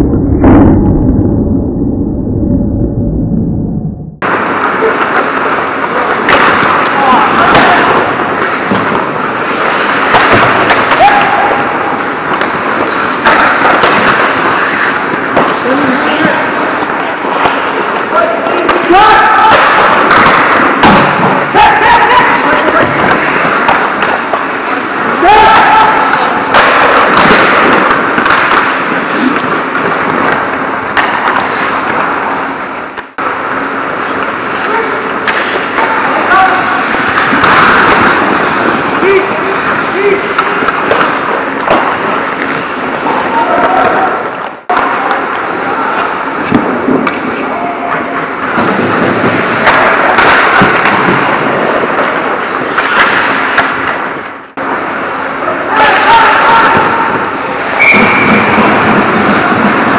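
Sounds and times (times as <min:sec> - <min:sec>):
hockey sticks and puck clacking: 0:04.2 - 0:59.9
skate blades scraping ice: 0:04.3 - 0:59.9.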